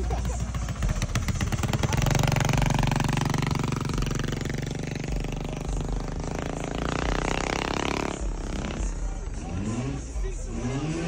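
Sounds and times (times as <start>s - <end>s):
small motorbike engine revving: 0.0s - 11.0s.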